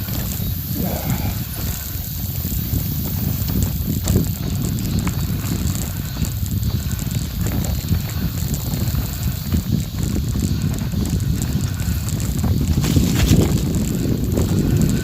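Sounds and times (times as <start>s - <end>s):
bicycle freewheel ticking: 0.0s - 15.0s
tyres rumbling on gravel: 0.0s - 15.0s
wind on microphone: 0.0s - 15.0s.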